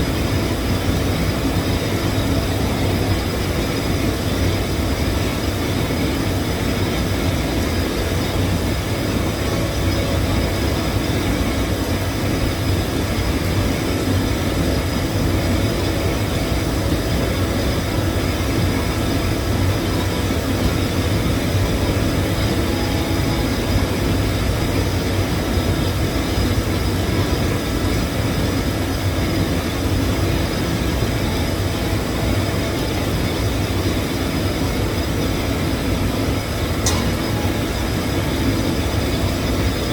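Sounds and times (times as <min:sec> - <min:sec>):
welding rig humming: 0:00.0 - 0:39.9.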